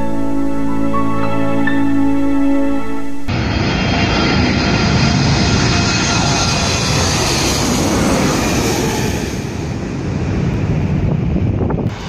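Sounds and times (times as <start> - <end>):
jet airliner passing overhead: 0.0 - 12.0.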